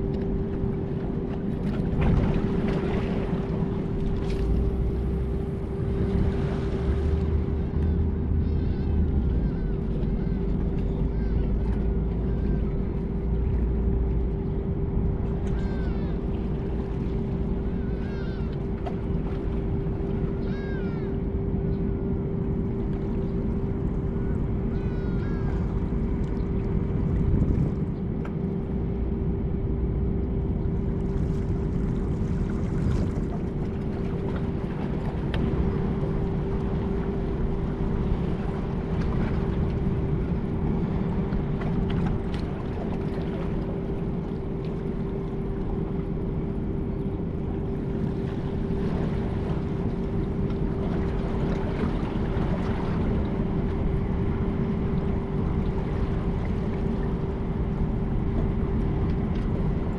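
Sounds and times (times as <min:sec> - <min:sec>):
marine engine running: 0:00.0 - 0:59.9.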